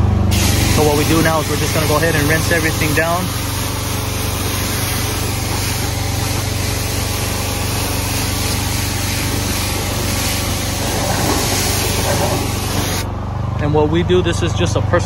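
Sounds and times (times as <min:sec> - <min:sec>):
low engine hum: 0:00.0 - 0:15.0
water spray hissing: 0:00.3 - 0:13.1.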